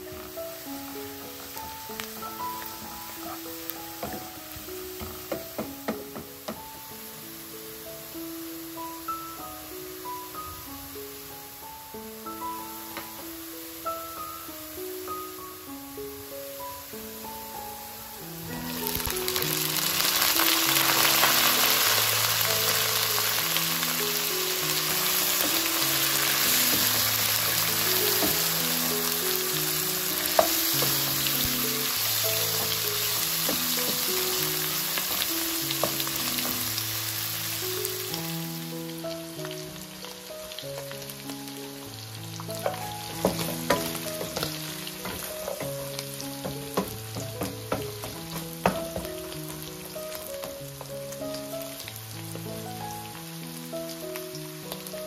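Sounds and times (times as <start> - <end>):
meat and onions sizzling in oil: 0.0 - 55.0
soft background music: 0.0 - 55.0.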